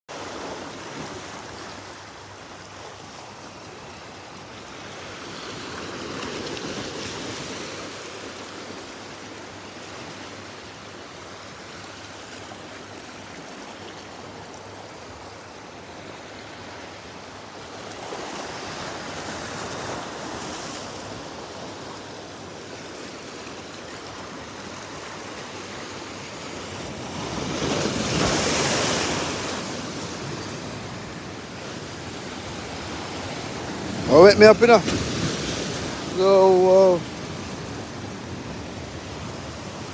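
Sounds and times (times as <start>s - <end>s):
waves washing in: 0.1s - 39.9s.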